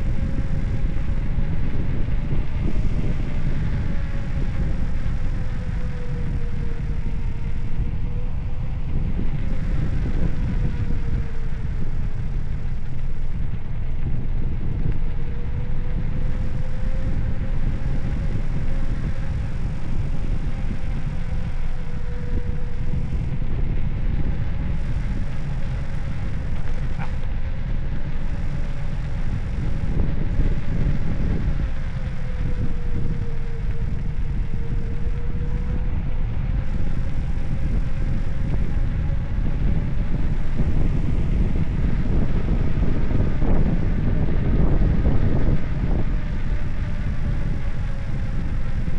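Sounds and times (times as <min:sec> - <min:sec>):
faint wavering hum: 0:00.0 - 0:48.9
wind buffeting microphone: 0:00.0 - 0:48.9.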